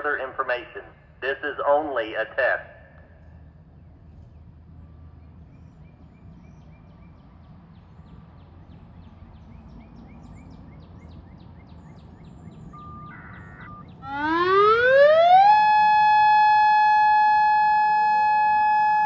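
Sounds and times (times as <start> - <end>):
birds chirping: 0.0 - 16.6.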